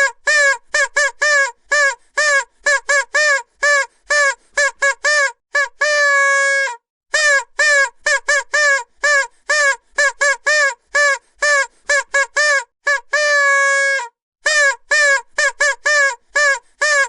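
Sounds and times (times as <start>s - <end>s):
vuvuzela toots: 0.0s - 17.0s.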